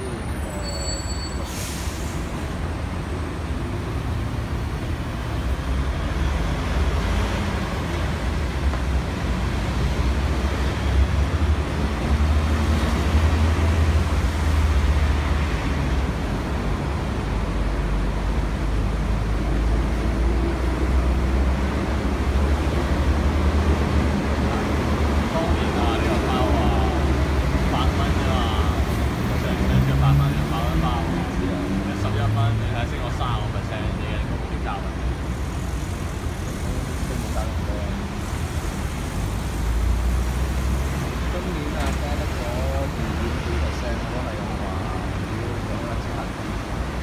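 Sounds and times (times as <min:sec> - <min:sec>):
road traffic passing: 0:00.0 - 0:47.0.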